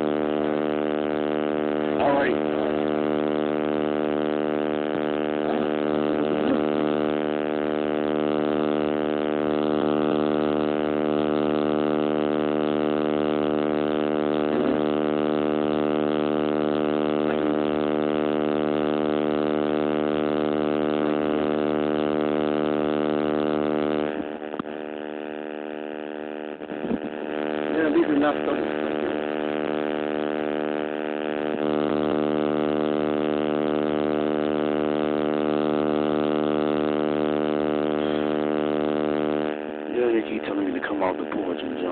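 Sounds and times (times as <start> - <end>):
electrical buzz: 0.0 - 41.9.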